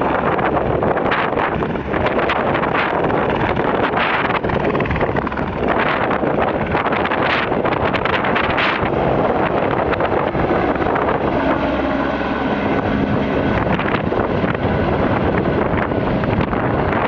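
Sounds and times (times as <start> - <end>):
helicopter rotor and engine: 0.0 - 17.0
wind buffeting microphone: 0.0 - 17.0.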